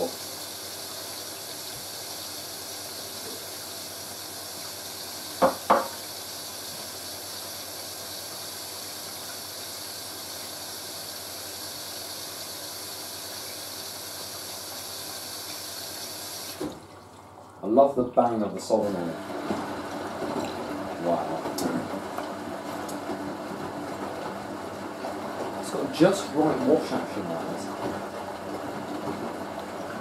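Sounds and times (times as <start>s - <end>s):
water running into washing machine: 0.0s - 30.0s.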